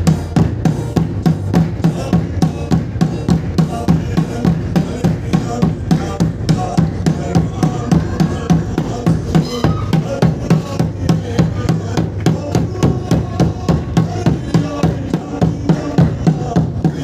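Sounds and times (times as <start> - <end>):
group singing: 0.0 - 17.0
steady drum beat: 0.0 - 17.0.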